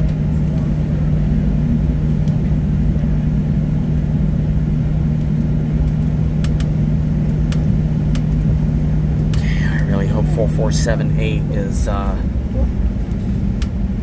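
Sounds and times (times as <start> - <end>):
aircraft cabin engine drone: 0.0 - 14.0.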